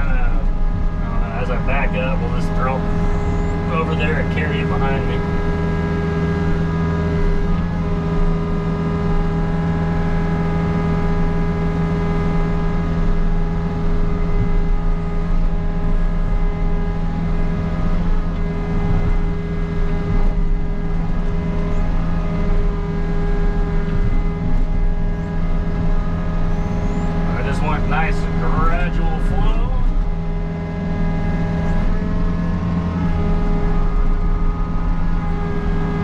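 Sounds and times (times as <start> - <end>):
mini excavator diesel engine running: 0.0 - 36.0.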